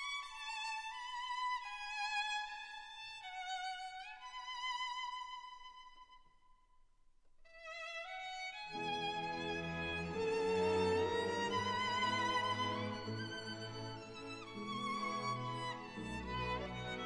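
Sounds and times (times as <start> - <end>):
solo violin slow melody: 0.0 - 6.3, 7.5 - 17.0.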